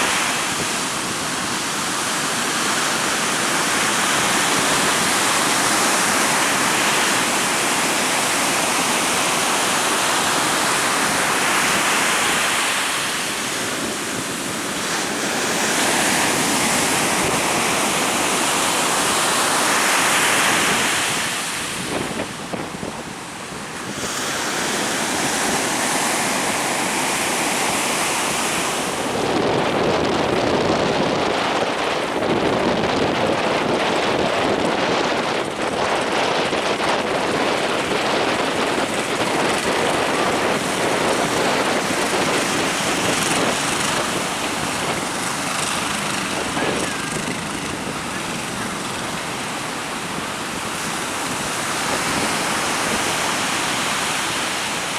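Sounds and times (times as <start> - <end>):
heavy surf breaking: 0.0 - 54.9
wind gusting across microphone: 0.0 - 54.9.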